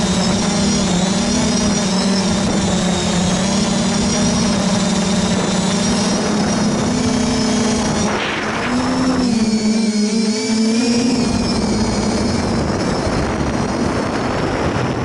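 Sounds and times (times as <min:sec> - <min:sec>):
quadcopter motors buzzing: 0:00.0 - 0:15.0.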